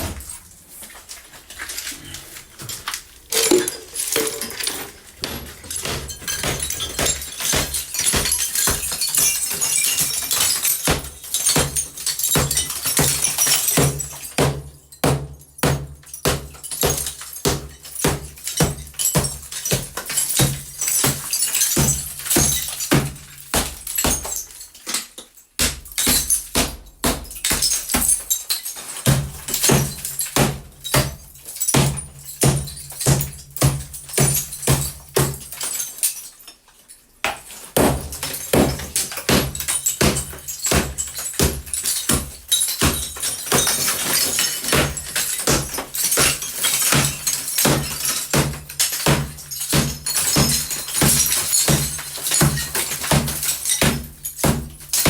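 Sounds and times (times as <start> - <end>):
hammer breaking up a wall: 3.4 - 36.1, 37.2 - 55.0.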